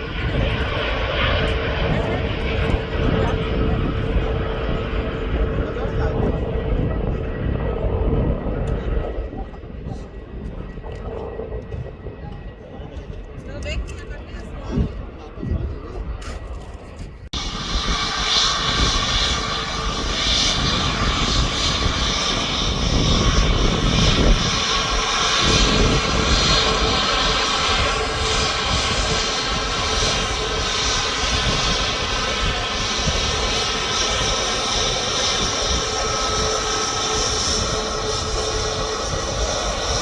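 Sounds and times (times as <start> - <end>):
jet airliner landing: 0.0 - 40.0.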